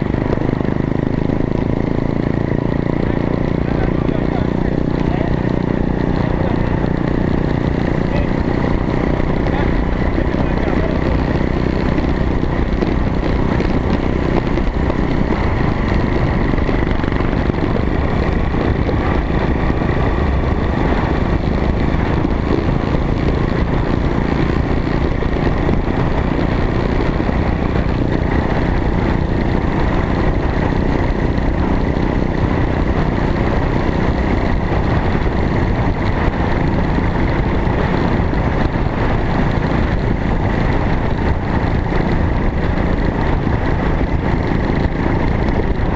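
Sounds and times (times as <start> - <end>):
heavy rumbling noise: 0.0 - 45.9
small vehicle engine running: 0.0 - 45.9.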